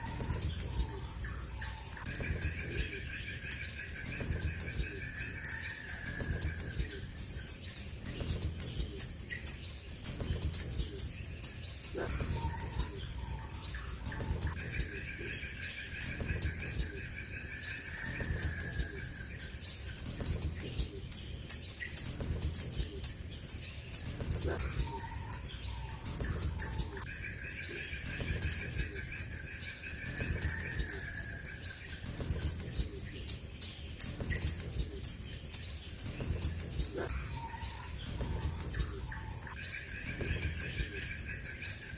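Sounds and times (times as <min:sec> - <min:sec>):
bird chirping high: 0:00.0 - 0:41.9
steady high whine: 0:00.0 - 0:41.9.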